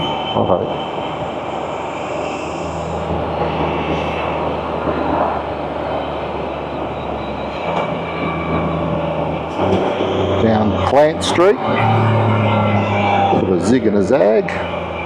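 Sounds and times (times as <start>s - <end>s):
engine running while riding: 0.0s - 15.0s.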